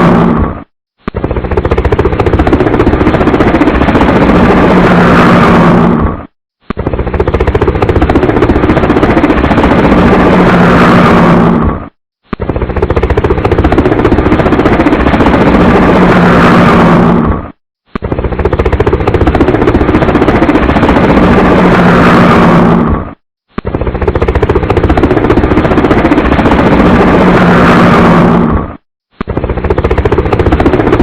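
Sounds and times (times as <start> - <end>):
helicopter chopping clatter: 0.0 - 31.0.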